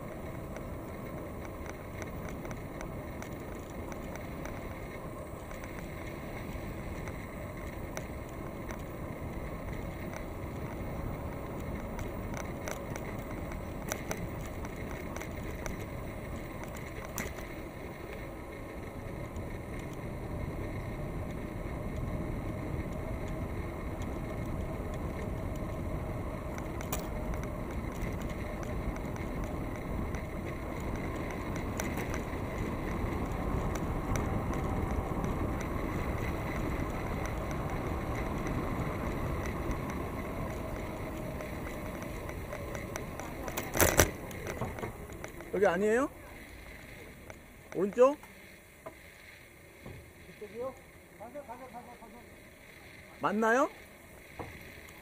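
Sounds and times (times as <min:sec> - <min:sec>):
small clicks and rattles: 0:00.0 - 0:49.1
bicycle tyre noise on pavement: 0:00.0 - 0:55.0.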